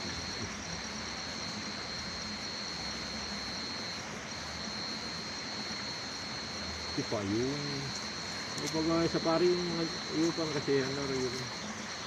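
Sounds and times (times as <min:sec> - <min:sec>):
insect buzzing: 0:00.0 - 0:12.0.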